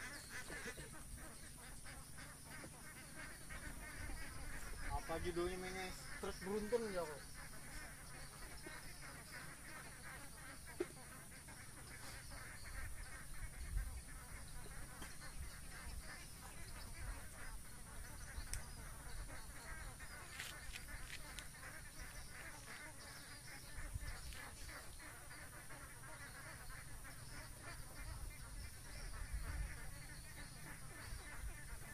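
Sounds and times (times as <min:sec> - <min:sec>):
distant animal calls: 0:00.0 - 0:31.9.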